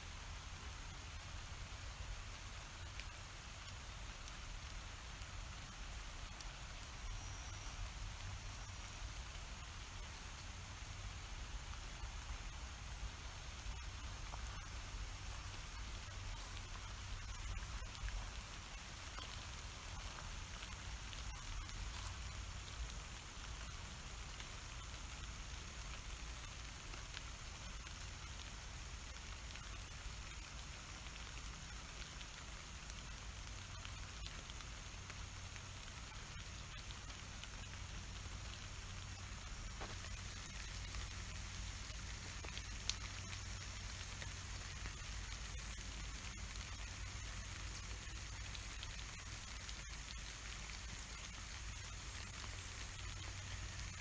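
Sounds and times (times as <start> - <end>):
steady rain hiss: 0.0 - 54.0
rain drop ticks: 0.2 - 54.0.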